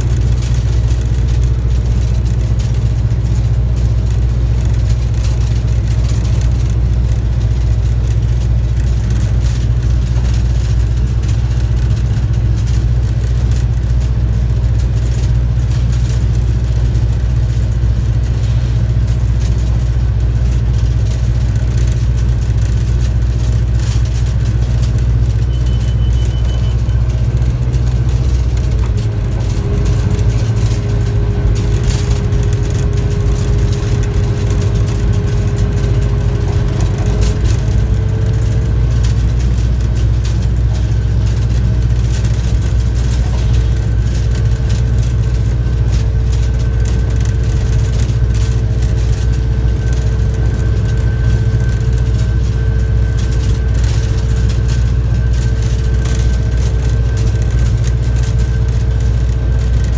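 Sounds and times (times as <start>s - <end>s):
diesel locomotive engine drone: 0.0s - 59.9s
steady whine: 0.0s - 59.9s.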